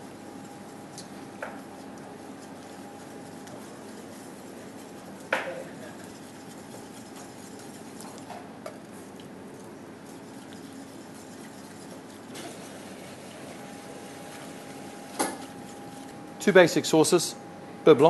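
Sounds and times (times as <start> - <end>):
wire whisk stirring in metal pan: 0.0 - 16.2
steady low hum: 0.0 - 18.0.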